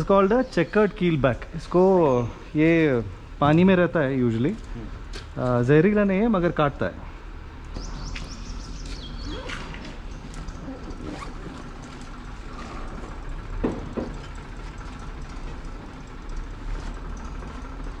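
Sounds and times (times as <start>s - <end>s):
low background rumble and hum: 0.0s - 18.0s.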